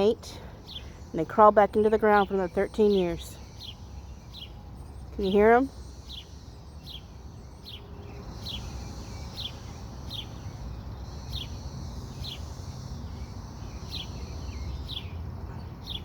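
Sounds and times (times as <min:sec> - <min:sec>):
cicadas droning chorus: 0:00.0 - 0:16.0.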